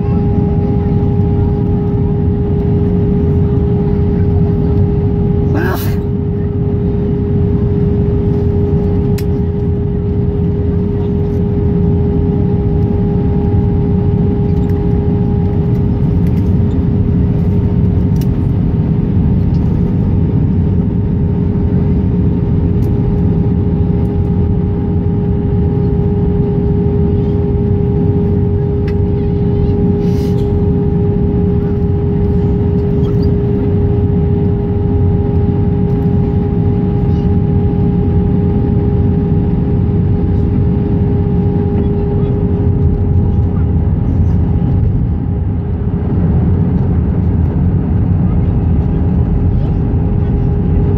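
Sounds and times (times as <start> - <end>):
airplane cabin airflow and engine noise: 0.0 - 50.9
steady hum: 0.0 - 50.9.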